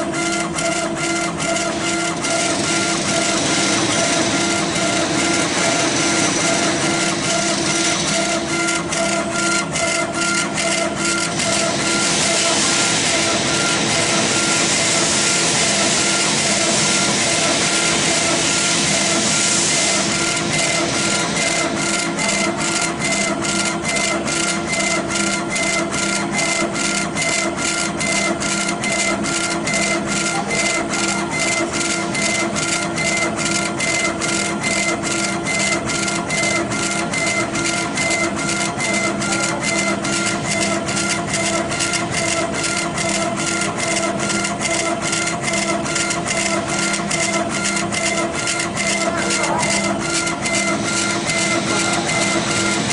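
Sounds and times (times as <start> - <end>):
steady machine hum: 0.0 - 52.9
laser head whirring strokes: 1.3 - 25.7, 28.0 - 52.9.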